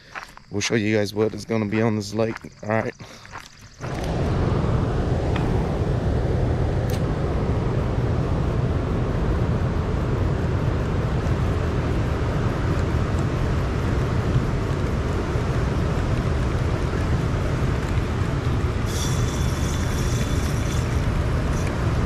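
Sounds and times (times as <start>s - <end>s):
boat motor droning: 3.8s - 22.0s.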